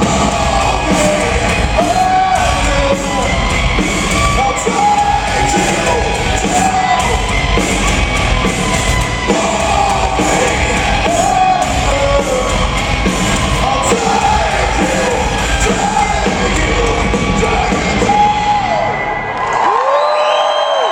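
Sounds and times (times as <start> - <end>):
male lead singer: 0.0 - 19.0
rock band playing live: 0.0 - 19.7.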